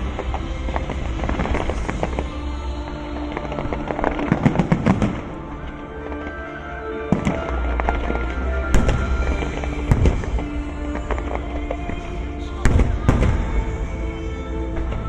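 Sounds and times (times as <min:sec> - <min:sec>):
fireworks crackling: 0:00.0 - 0:15.0
fireworks heavy bangs: 0:00.0 - 0:15.0
music playing: 0:00.0 - 0:15.0.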